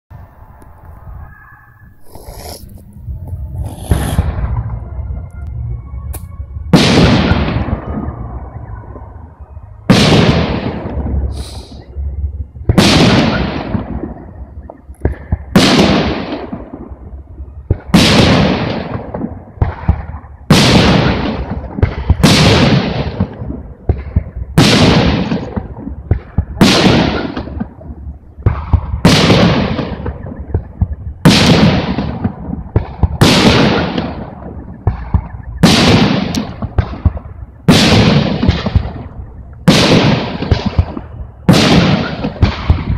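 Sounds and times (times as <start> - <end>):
firework shells booming with echo: 2.0 - 4.8, 6.1 - 9.0, 12.6 - 42.9.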